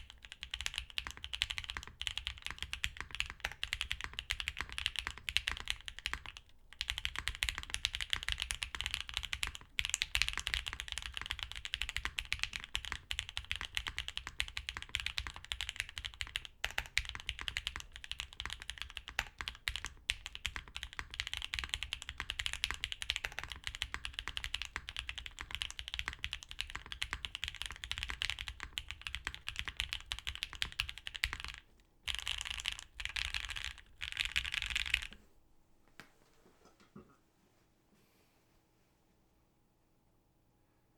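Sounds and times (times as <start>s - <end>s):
mechanical keyboard typing: 0.0s - 35.2s.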